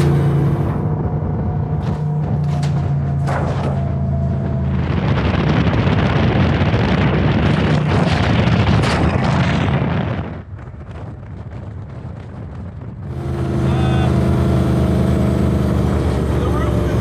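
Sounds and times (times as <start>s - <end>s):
engine droning: 0.0s - 10.1s, 13.0s - 17.0s
wind buffeting microphone: 0.1s - 17.0s.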